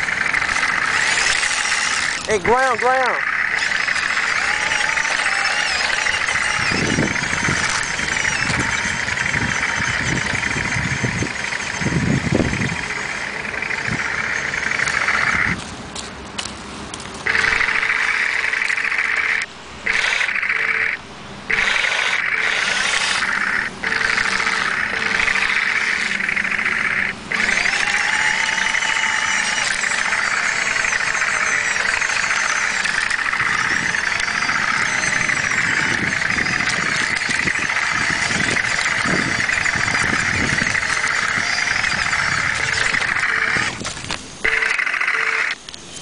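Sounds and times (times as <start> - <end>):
electric motors whirring: 0.0 - 15.8, 16.4 - 46.0.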